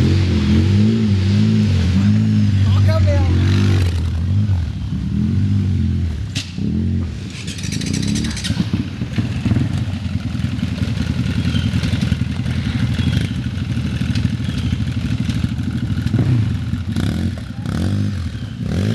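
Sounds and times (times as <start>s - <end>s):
atv engines revving: 0.0s - 18.9s.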